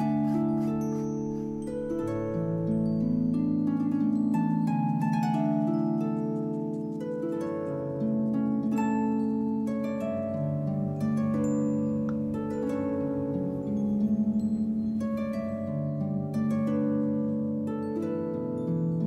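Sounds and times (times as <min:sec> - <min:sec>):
instrumental music with chords: 0:00.0 - 0:19.0.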